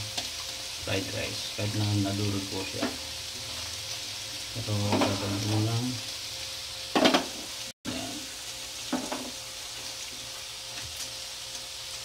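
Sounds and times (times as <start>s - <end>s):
eggs sizzling in oil: 0.0s - 12.0s.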